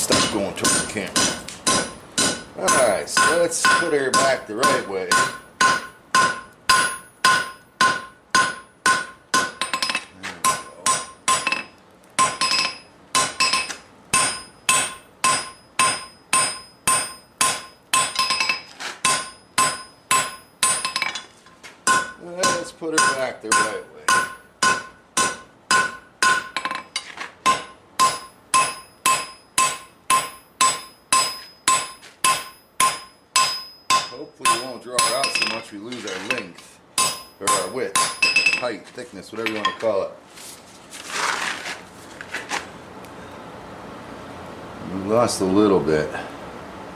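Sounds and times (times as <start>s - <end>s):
anvil ringing: 0.0s - 21.3s, 21.9s - 38.7s
hammer striking steel on anvil: 0.0s - 38.7s.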